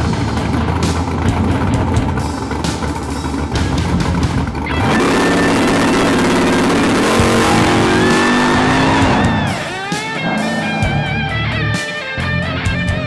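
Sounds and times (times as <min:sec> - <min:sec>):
drag car engine at full throttle: 0:00.0 - 0:13.0.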